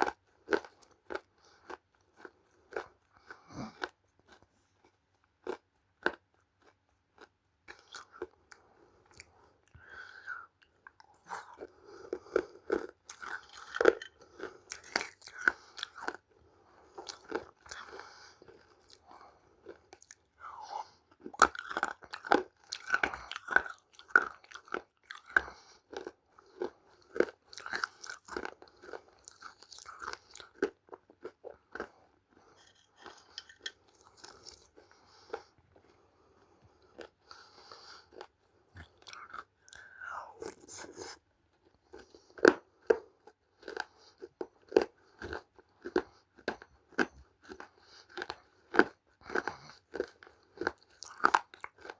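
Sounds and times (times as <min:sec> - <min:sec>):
crunching and chewing dry clay: 0:00.0 - 0:51.9.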